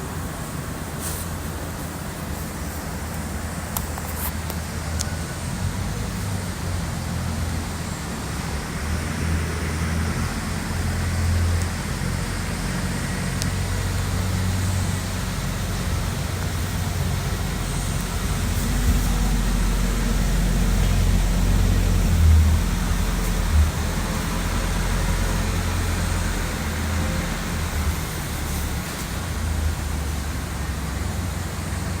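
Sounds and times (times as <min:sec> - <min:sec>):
boat engine rumble: 0:00.0 - 0:32.0
water hiss: 0:00.0 - 0:32.0.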